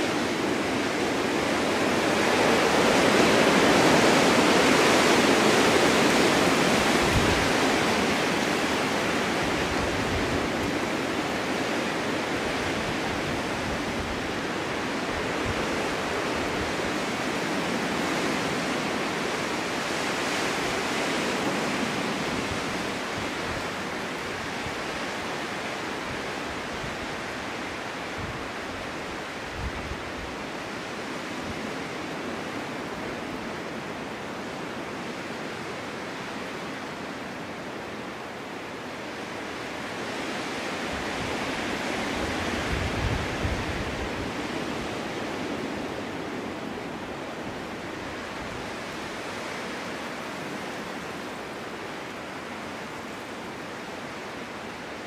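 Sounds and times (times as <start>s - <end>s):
snowstorm wind gusting: 0.0s - 55.0s.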